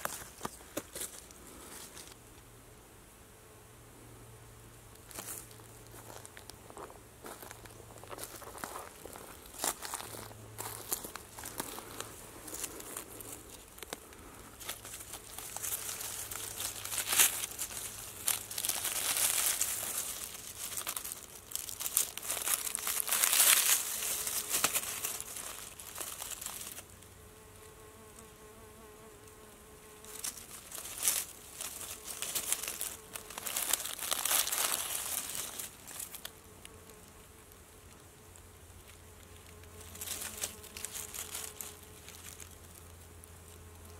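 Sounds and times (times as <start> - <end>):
faint insect buzzing: 0.0 - 43.9
dry leaves rustling and crackling: 5.1 - 27.0, 30.0 - 37.2, 37.8 - 43.9.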